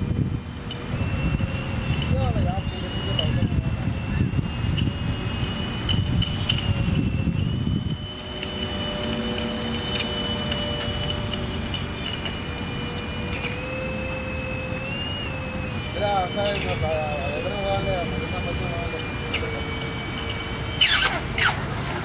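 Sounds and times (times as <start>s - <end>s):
electric motor high whine: 0.0s - 22.0s.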